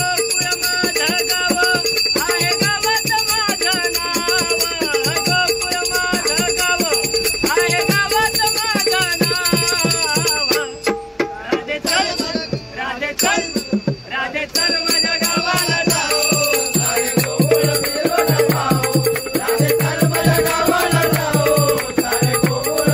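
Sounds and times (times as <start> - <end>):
jingling bells: 0.0 - 11.2, 11.8 - 22.9
steady drum beat: 0.0 - 22.9.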